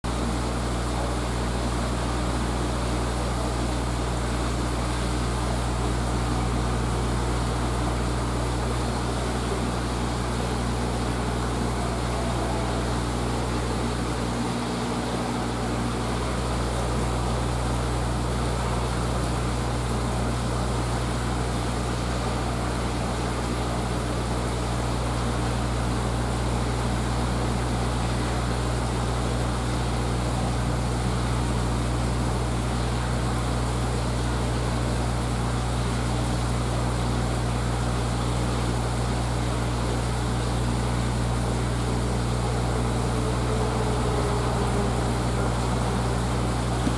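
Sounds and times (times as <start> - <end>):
electric pump hum: 0.0 - 46.9.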